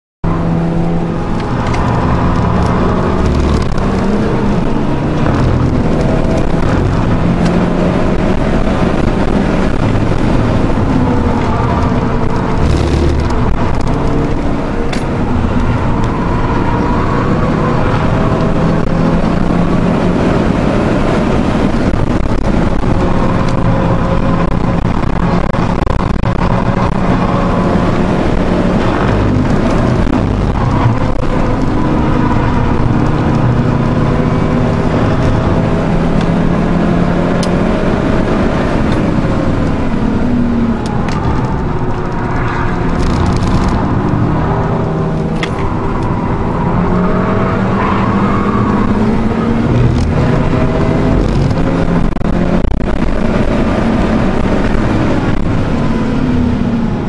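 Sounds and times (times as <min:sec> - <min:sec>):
car engine accelerating: 0:00.2 - 0:57.0
road and wind noise: 0:00.2 - 0:57.0.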